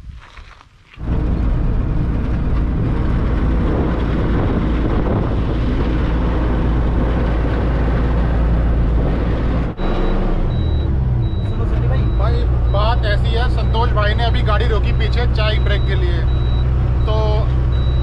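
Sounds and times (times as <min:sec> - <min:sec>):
road and wind noise: 0:00.0 - 0:18.0
truck engine hum: 0:01.0 - 0:18.0.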